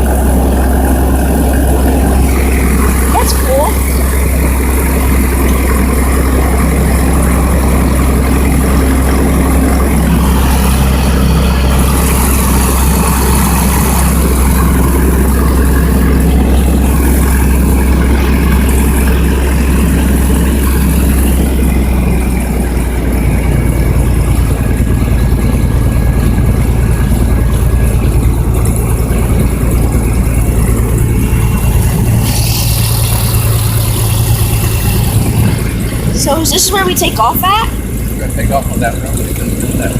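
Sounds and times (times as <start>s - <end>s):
small airplane engine running: 0.0s - 39.9s.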